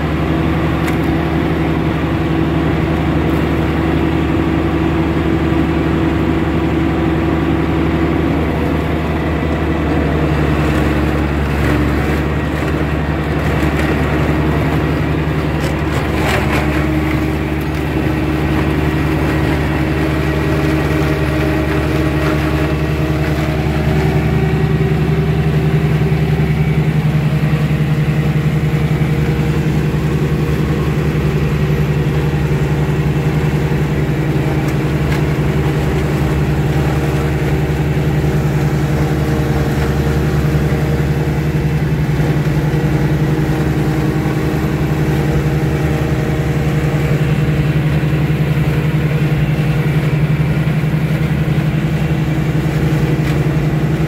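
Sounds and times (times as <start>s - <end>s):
flail mower cutting grass: 0.0s - 54.0s
tractor engine running: 0.0s - 54.0s.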